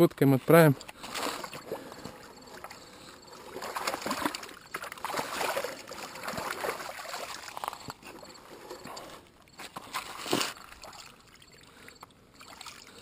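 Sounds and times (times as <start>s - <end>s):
shallow water splashing: 1.0s - 13.0s.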